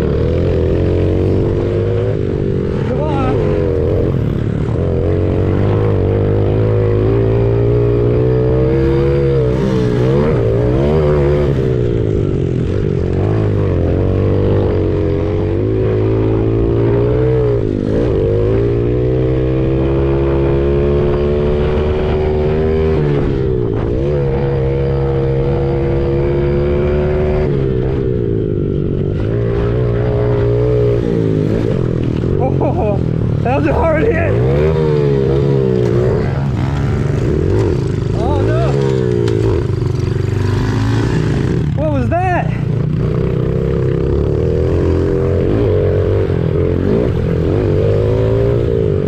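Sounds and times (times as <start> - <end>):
motorbike engine revving: 0.0 - 49.0.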